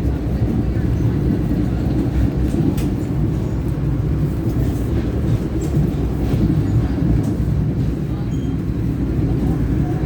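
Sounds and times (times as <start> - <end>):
train rumble inside carriage: 0.0 - 10.0.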